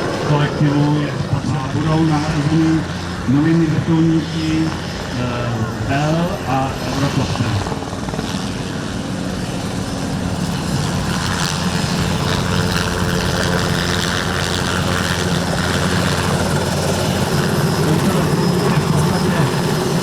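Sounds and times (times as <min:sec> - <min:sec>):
helicopter rotor beating: 0:00.0 - 0:20.0
turbine humming: 0:00.0 - 0:20.0.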